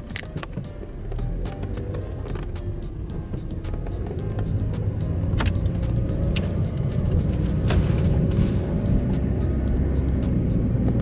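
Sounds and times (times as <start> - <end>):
tyre and engine rumble: 0.0 - 11.0.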